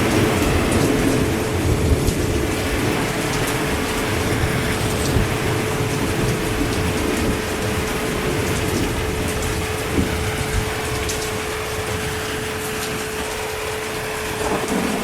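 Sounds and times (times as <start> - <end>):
heavy rain falling: 0.0 - 15.0
raindrop ticks: 0.0 - 15.0.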